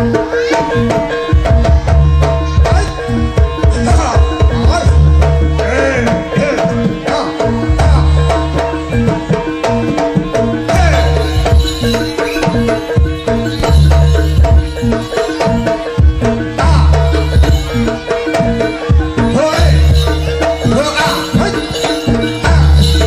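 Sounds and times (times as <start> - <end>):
gamelan music: 0.0 - 23.0
hand drum patterns: 0.0 - 23.0.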